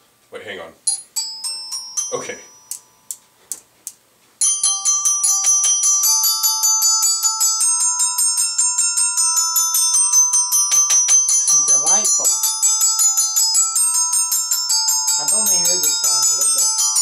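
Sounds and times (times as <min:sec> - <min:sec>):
glockenspiel tremolo roll: 0:00.9 - 0:03.2, 0:04.4 - 0:17.0.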